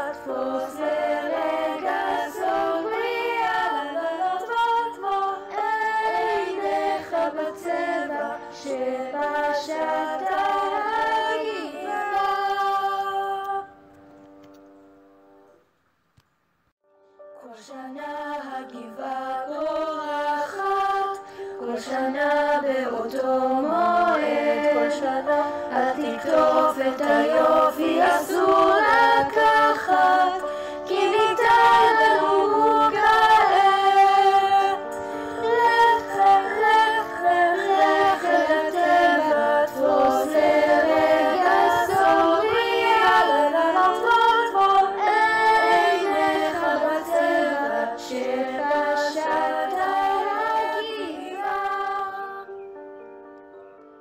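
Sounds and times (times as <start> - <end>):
children's choir singing: 0.0 - 13.8, 17.4 - 52.6.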